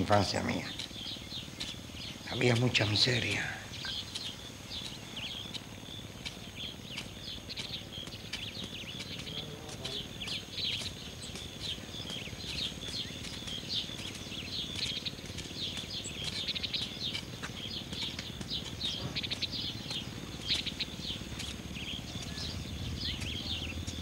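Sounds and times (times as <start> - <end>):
low background noise: 0.0 - 24.0
small birds chirping: 0.0 - 24.0.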